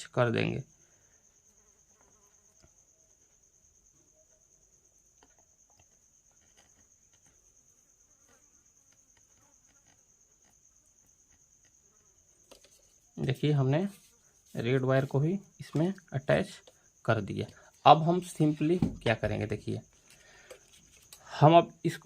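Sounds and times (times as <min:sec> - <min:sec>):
faint high-pitched whine: 0:00.0 - 0:22.0.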